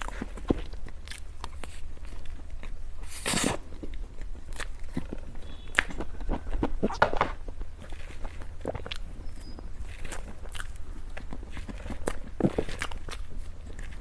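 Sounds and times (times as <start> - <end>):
biting and chewing: 0.0 - 14.0.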